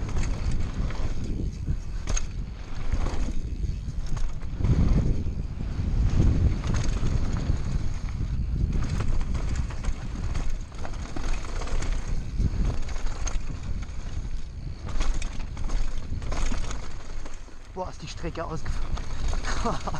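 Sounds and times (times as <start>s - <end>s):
bike tyres rolling over gravel: 0.0s - 19.9s
stones clicking and bike rattling: 0.0s - 19.9s
wind buffeting microphone: 0.0s - 19.9s.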